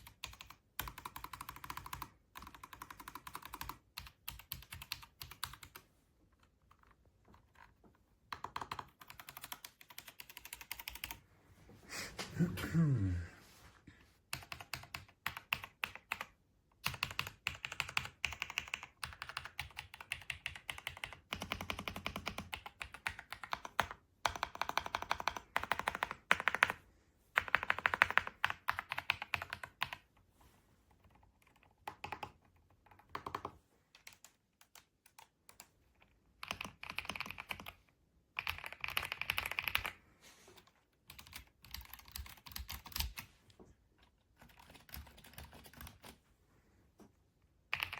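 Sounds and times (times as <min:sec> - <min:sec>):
mechanical keyboard typing: 0:00.0 - 0:05.9, 0:06.6 - 0:11.2, 0:14.3 - 0:26.8, 0:27.4 - 0:30.0, 0:31.0 - 0:40.0, 0:41.1 - 0:43.3, 0:44.3 - 0:46.2, 0:47.7 - 0:47.9.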